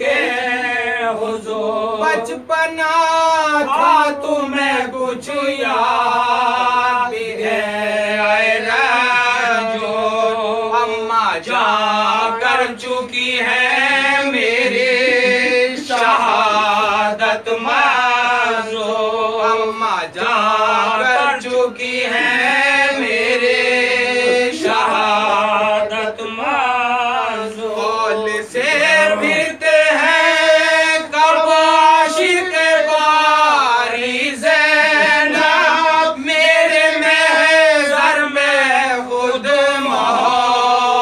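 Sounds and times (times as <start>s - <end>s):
men chanting together: 0.0s - 41.0s.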